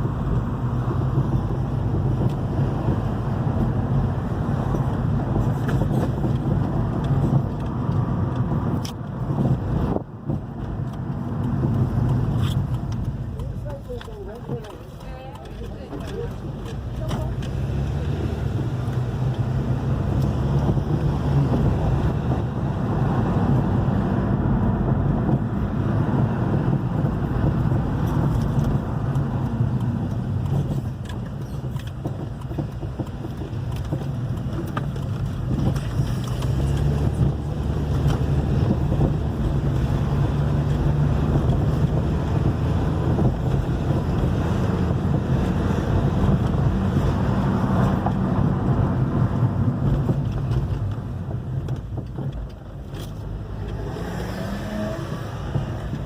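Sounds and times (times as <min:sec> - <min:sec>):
car engine driving: 0:00.0 - 0:56.0
suspension knocking: 0:00.0 - 0:56.0.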